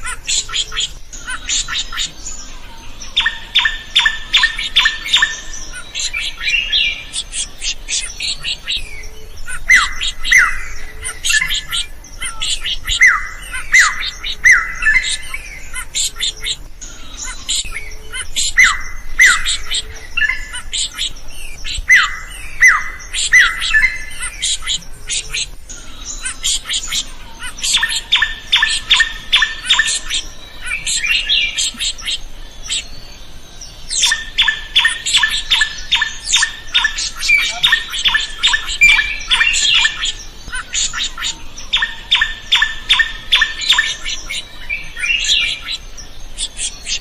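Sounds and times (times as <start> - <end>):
bird singing: 0.0 - 47.0.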